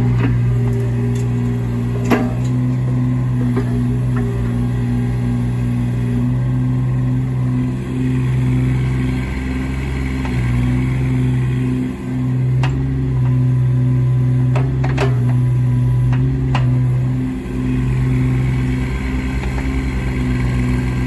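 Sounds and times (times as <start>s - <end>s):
mini excavator diesel engine: 0.0s - 21.0s.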